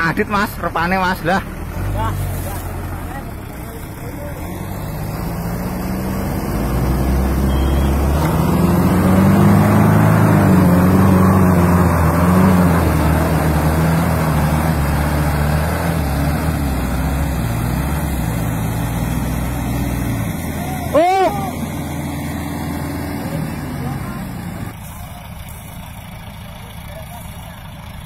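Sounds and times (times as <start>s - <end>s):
diesel engines running under load: 0.0s - 28.0s.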